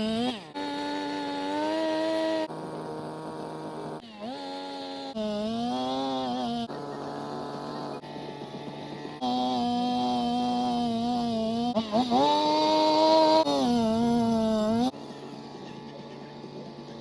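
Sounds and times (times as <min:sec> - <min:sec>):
post-hole auger engine boring: 0:00.0 - 0:17.0.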